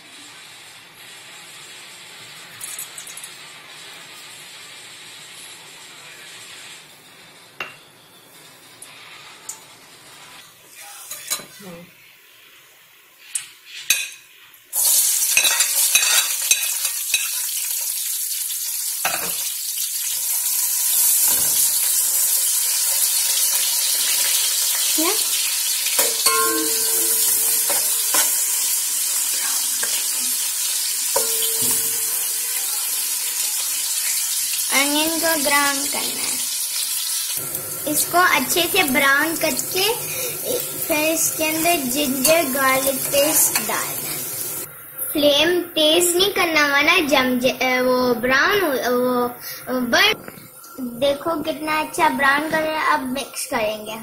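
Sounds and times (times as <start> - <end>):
onions sizzling in hot oil: 0.0 - 50.0.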